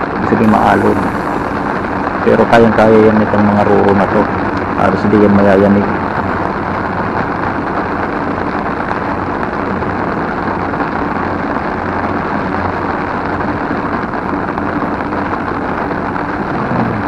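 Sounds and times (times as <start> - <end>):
heavy rain drumming on umbrella: 0.0 - 17.0.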